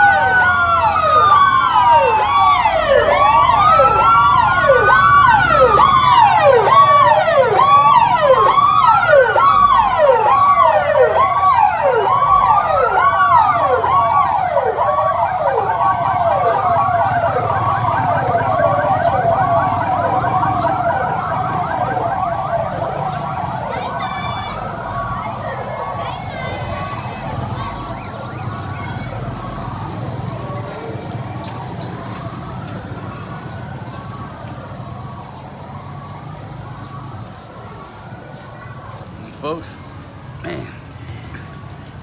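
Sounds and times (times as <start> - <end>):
emergency sirens yelping and wailing: 0.0 - 42.0.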